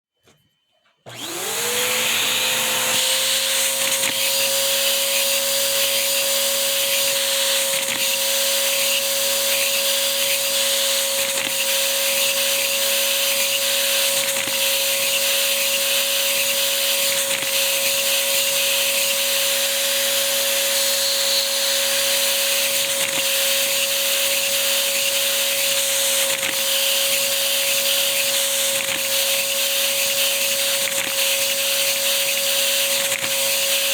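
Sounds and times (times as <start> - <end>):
vacuum cleaner running: 1.1 - 33.9.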